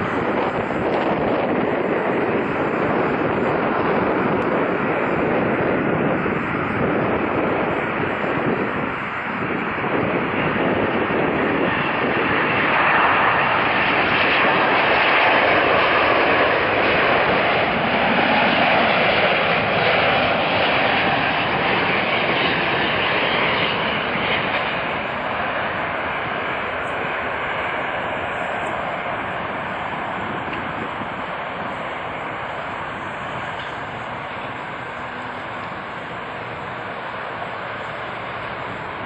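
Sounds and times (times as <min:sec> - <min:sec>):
jet airliner passing: 0:00.0 - 0:39.0.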